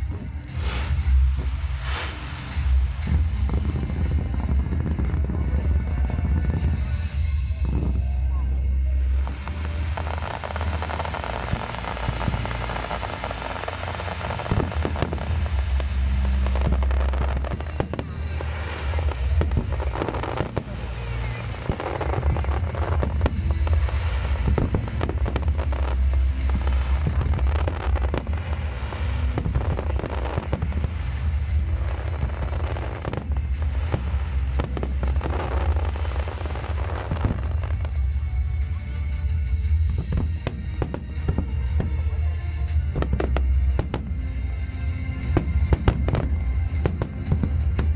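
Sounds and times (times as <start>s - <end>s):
fireworks bangs and crackles: 0.0s - 47.9s
music with heavy bass: 0.0s - 47.9s.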